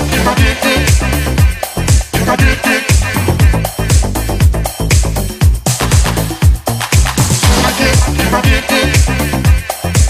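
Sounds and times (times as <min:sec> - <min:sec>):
dance music with kick drum: 0:00.0 - 0:10.0.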